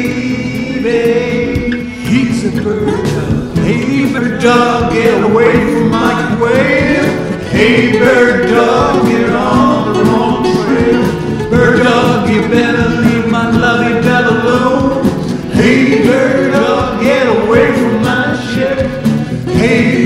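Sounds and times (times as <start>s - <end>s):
country rock and roll song: 0.0s - 20.0s
instrumental backing: 0.0s - 20.0s
person singing: 0.0s - 20.0s.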